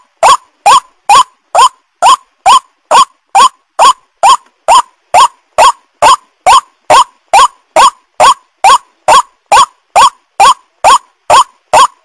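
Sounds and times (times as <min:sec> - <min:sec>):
waterhen calls: 0:00.2 - 0:12.0.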